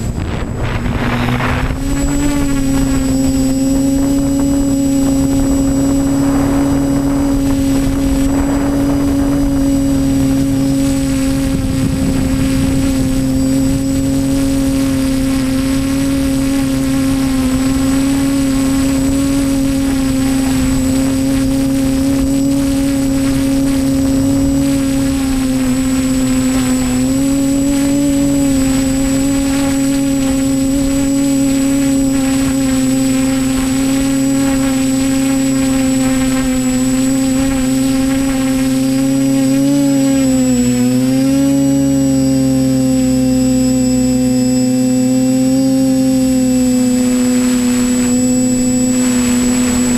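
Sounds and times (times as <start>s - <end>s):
quadcopter motors buzzing: 0.0s - 49.9s.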